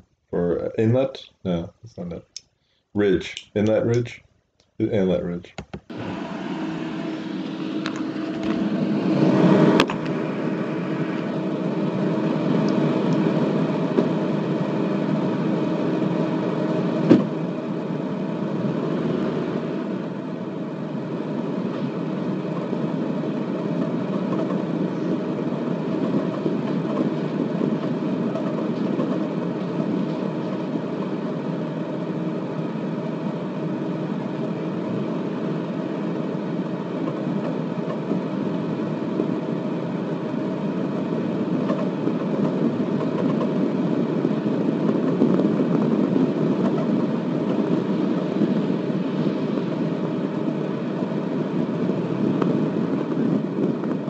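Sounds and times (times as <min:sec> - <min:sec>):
low hum: 0:00.0 - 0:02.4, 0:04.8 - 0:54.0
car engine and road noise: 0:05.9 - 0:54.0.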